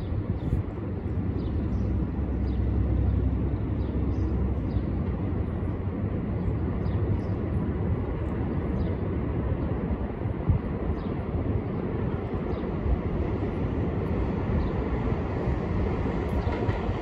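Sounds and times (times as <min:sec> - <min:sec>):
distant subway train rumble: 0:00.0 - 0:17.0.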